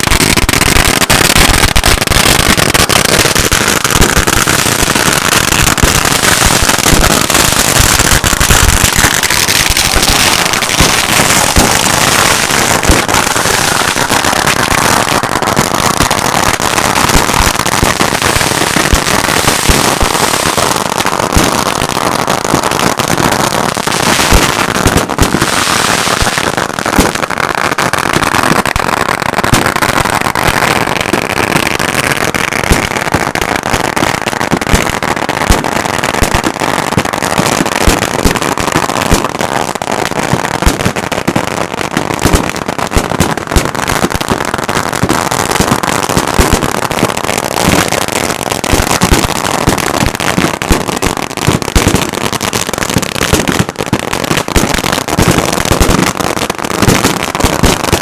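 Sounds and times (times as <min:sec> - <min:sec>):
fireworks popping and banging: 0:00.0 - 0:58.0.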